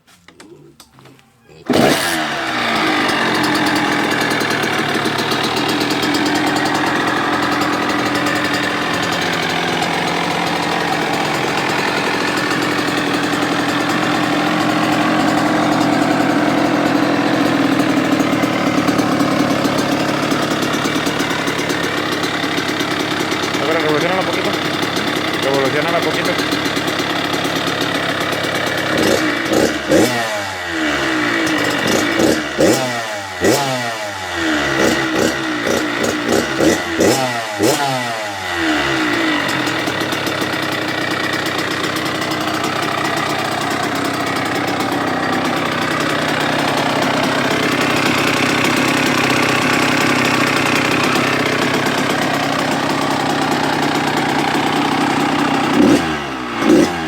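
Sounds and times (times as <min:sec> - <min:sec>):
motocross engine revving: 0:00.4 - 0:57.0.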